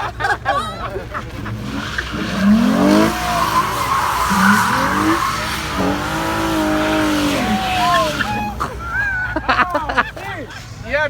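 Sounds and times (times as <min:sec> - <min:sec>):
car engine revving: 0:00.0 - 0:10.8
tyres squealing and skidding: 0:00.0 - 0:11.0.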